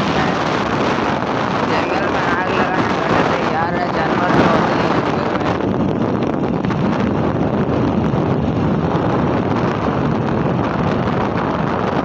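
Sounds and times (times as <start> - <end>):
vehicle running noise: 0.0 - 12.0
wind rush on microphone: 0.0 - 12.0.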